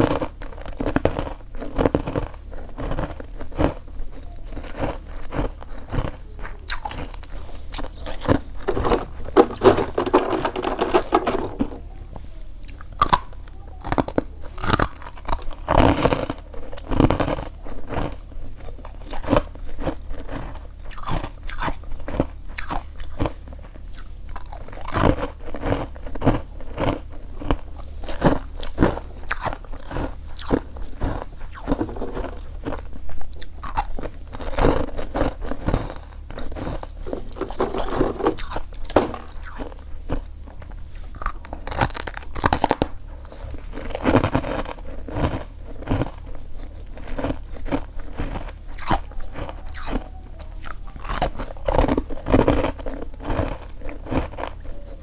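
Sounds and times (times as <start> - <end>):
crunching and chewing frost: 0.0 - 55.0.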